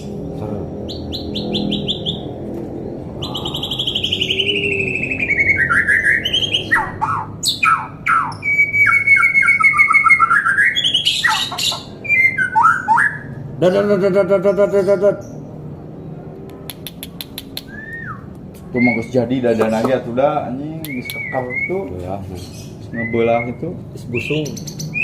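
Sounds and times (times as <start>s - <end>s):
bird singing varied song: 0.0s - 25.0s.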